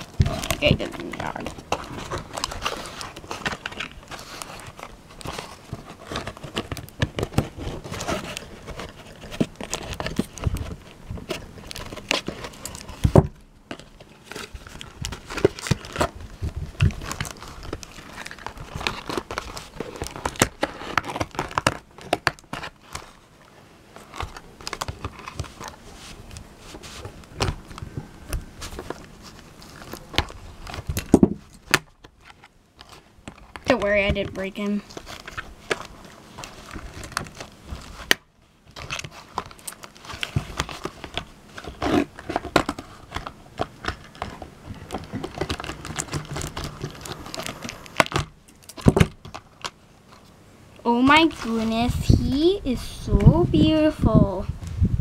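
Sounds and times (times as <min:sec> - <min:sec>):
scissors cutting packaging: 0:00.0 - 0:23.2, 0:24.0 - 0:38.2, 0:38.8 - 0:49.7
cardboard and plastic crinkling: 0:00.0 - 0:54.5.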